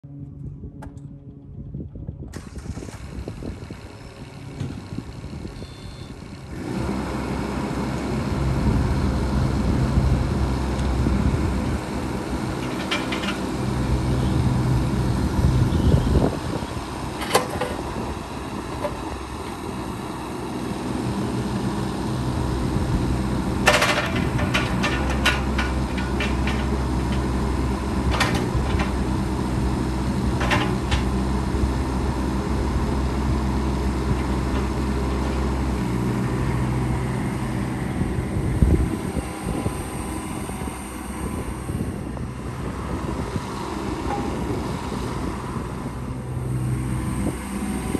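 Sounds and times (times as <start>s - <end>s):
mini excavator diesel engine: 2.2s - 47.9s.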